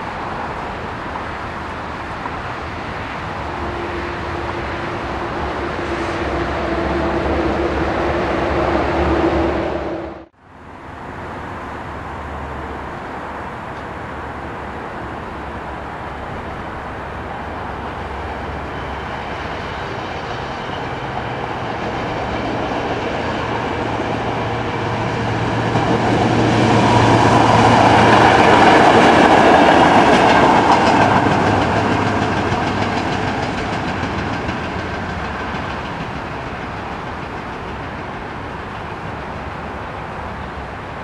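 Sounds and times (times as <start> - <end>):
train wheel noise: 0.0 - 10.3, 12.3 - 41.0
locomotive engine drone: 0.0 - 41.0.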